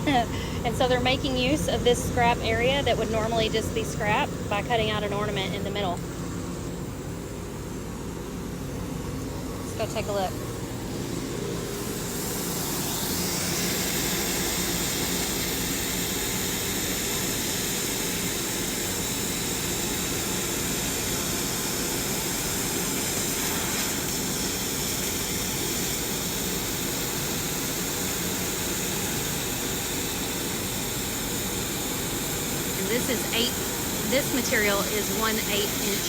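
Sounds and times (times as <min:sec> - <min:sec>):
laser cutter fan noise: 0:00.0 - 0:36.0.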